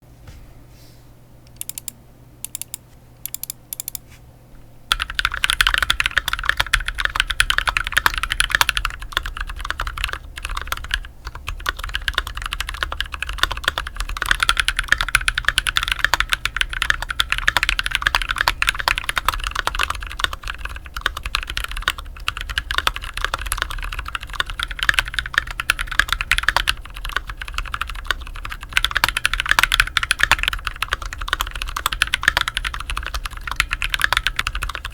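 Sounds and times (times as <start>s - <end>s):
mechanical keyboard typing: 1.5s - 4.0s, 4.9s - 34.9s.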